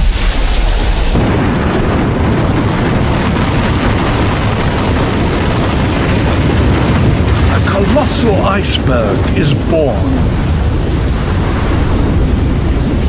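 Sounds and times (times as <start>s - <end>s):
deep rumble of ice collapsing: 0.0s - 13.0s.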